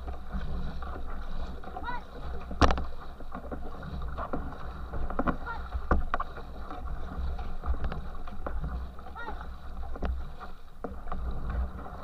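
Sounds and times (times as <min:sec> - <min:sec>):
paddle splashes: 0:00.0 - 0:12.0
water rushing under hull: 0:00.0 - 0:12.0.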